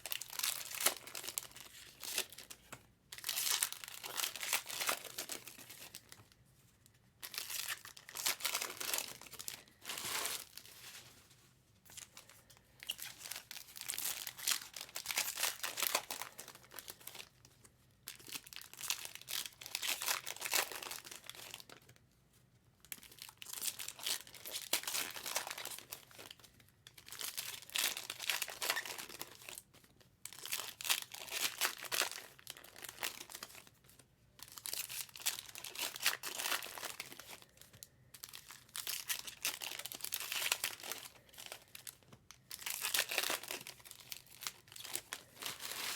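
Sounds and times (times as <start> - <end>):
wrappers tearing and crinkling: 0.0 - 6.2, 7.2 - 11.1, 12.0 - 17.3, 18.1 - 22.0, 22.9 - 29.6, 30.2 - 33.7, 34.4 - 45.9.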